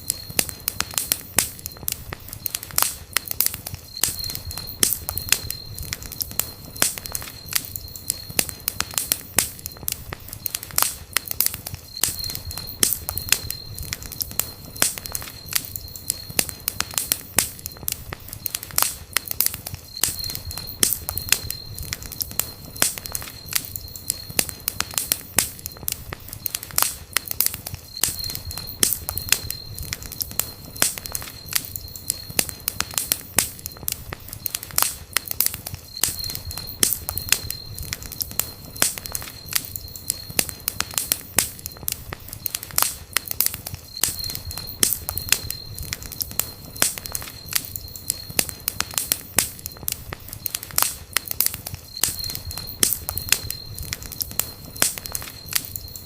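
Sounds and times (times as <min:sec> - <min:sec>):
campfire crackling: 0:00.0 - 0:56.0
faint high whistle: 0:00.0 - 0:56.0.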